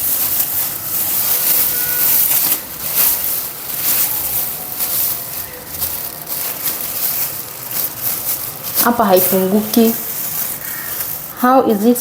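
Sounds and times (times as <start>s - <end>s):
plastic bin liner crinkling: 0.0s - 12.0s.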